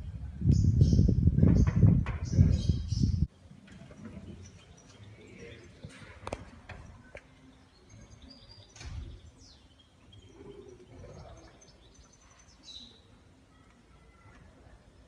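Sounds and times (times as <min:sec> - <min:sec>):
faint street ambience: 0:00.0 - 0:15.0
small birds chirping: 0:00.0 - 0:15.0.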